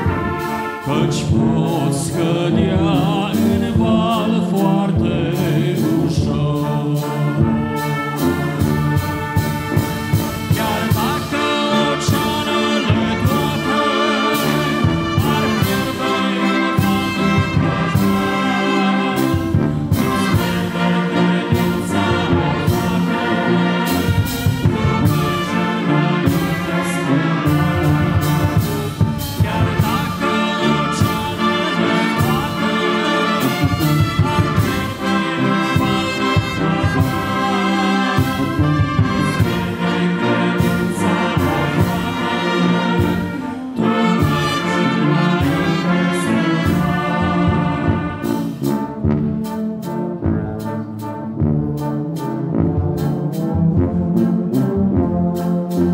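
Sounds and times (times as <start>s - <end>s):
brass band playing a hymn: 0.0s - 55.9s.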